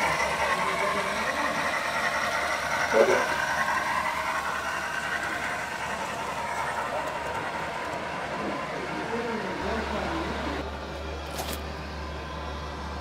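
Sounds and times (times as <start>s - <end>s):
model train rolling hum: 0.0s - 13.0s.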